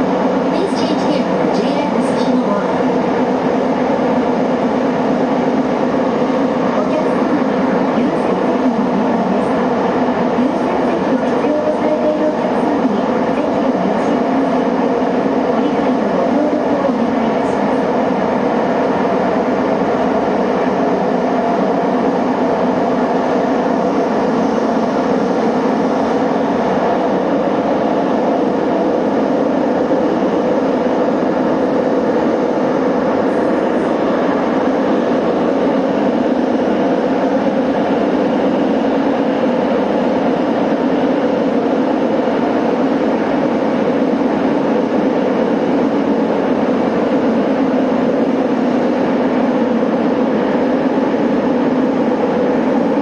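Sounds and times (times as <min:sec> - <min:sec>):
subway train running in tunnel: 0:00.0 - 0:53.0.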